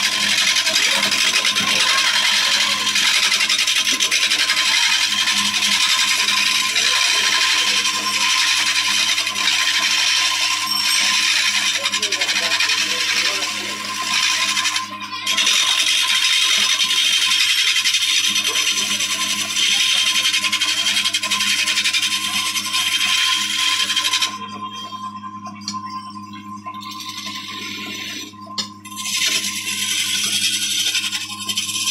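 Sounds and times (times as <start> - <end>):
woodworking machine cutting wood: 0.0 - 25.0, 26.4 - 31.9.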